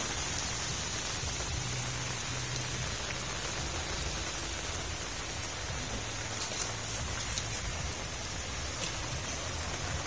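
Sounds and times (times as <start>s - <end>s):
rain falling on a street: 0.0s - 10.0s.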